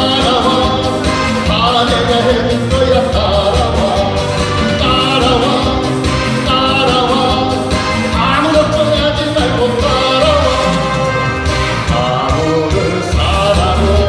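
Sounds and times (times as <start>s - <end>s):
backing track with steady beat: 0.0s - 14.0s
person singing: 0.0s - 14.0s.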